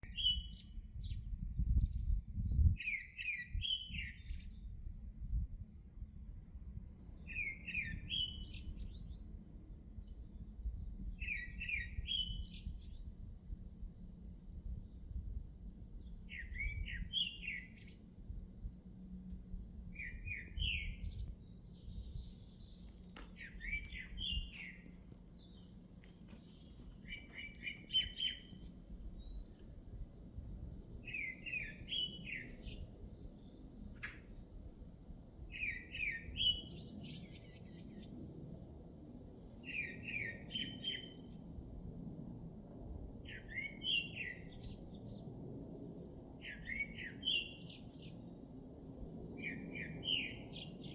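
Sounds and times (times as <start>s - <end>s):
songbird singing chirping phrases: 0.0s - 6.2s, 7.0s - 30.0s, 31.0s - 38.2s, 39.3s - 41.5s, 43.3s - 45.8s, 46.4s - 48.4s, 49.2s - 50.9s.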